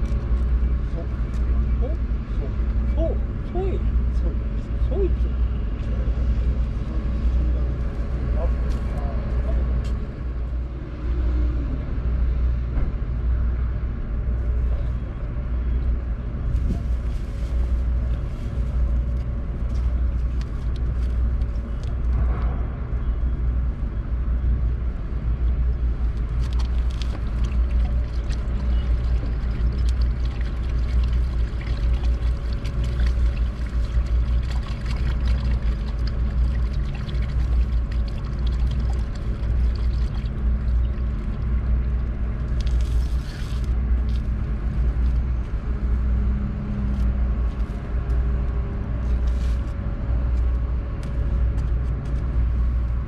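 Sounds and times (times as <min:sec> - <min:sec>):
engine running with low rumble: 0:00.0 - 0:53.0.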